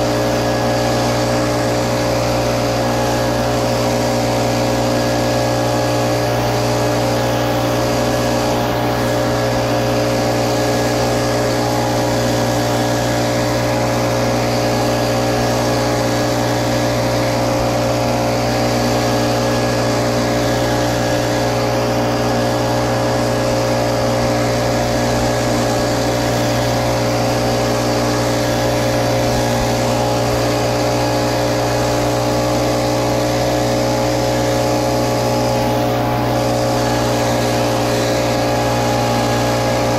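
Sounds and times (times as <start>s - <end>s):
blower engine hum: 0.0s - 39.9s.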